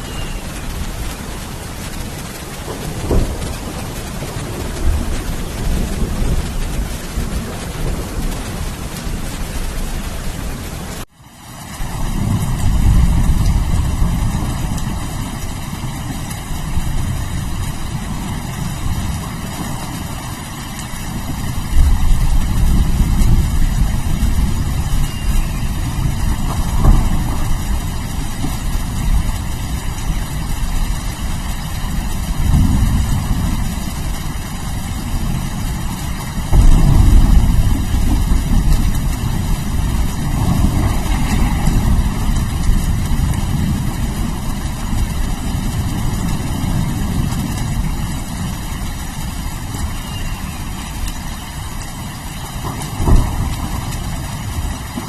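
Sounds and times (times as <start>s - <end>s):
rolling thunder: 0.0s - 11.0s, 11.7s - 55.0s
steady rain: 0.0s - 55.0s.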